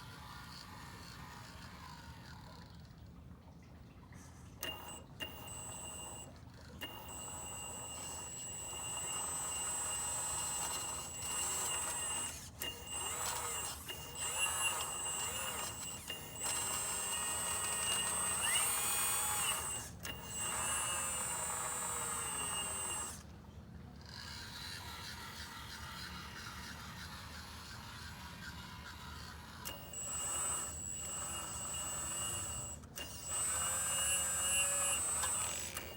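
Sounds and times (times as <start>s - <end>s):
hydraulic pump motor whining: 0.0s - 2.9s, 4.6s - 23.4s, 24.0s - 35.9s.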